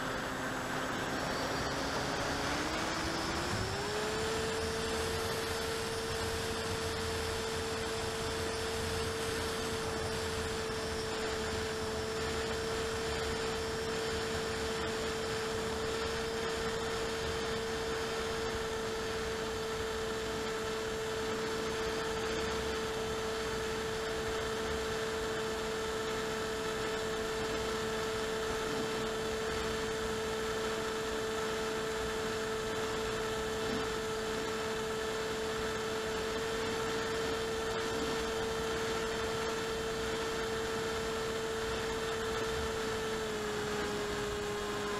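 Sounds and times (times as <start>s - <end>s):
electric motor and propeller hum: 0.0s - 44.9s.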